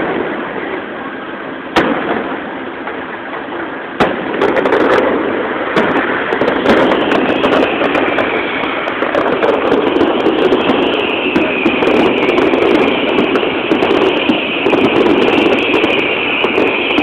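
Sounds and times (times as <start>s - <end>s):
firework shells bursting: 0.0s - 17.0s
fireworks crackling: 0.0s - 17.0s.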